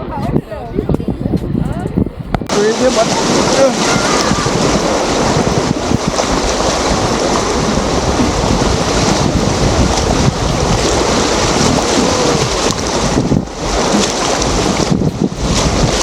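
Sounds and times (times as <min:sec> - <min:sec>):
wind buffeting microphone: 0:00.0 - 0:16.0
river water rushing: 0:02.5 - 0:16.0.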